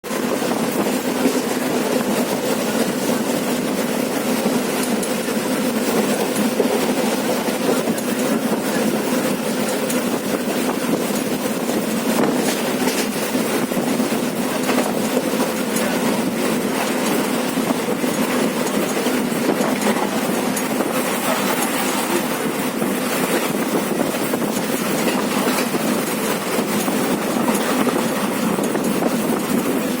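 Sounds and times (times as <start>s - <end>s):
train rumbling along track: 0.0s - 30.0s
wheels clicking over rails: 0.1s - 30.0s.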